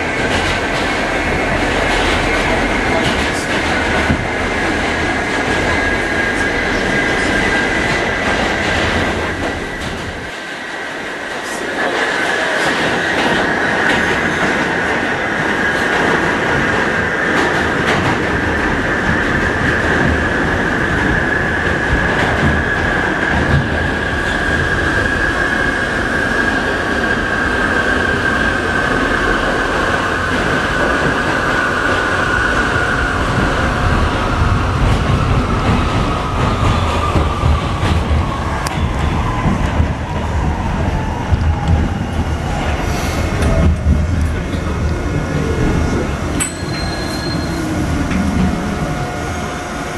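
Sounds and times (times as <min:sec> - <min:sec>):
train rumbling on track: 0:00.0 - 0:49.9.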